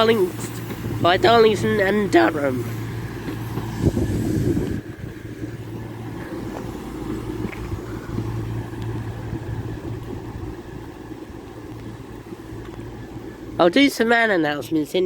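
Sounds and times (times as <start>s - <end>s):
diesel train engines humming: 0.0s - 15.0s.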